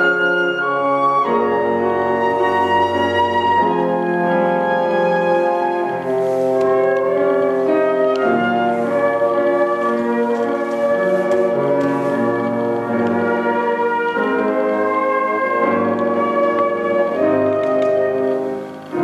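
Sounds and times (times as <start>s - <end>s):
flute ensemble playing chords: 0.0s - 19.0s.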